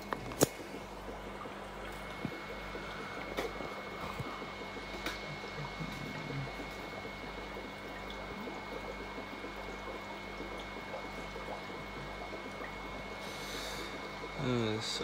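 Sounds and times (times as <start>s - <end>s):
aquarium bubbling: 0.0s - 15.0s
faint steady hum: 0.0s - 15.0s.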